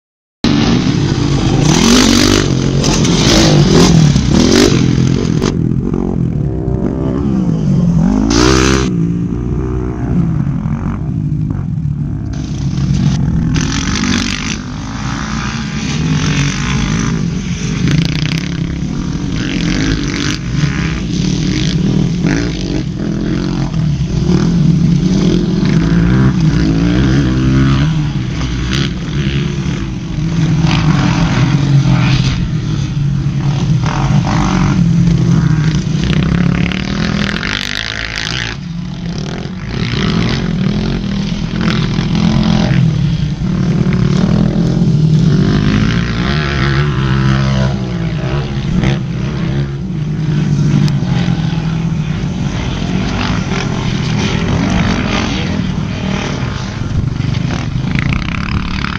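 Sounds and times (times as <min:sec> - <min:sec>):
dirt bike engines revving: 0:00.4 - 0:58.9.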